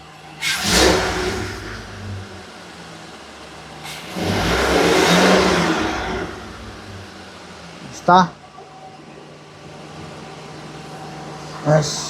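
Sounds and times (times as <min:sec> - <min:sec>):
engine revving and idling: 0:00.0 - 0:12.0.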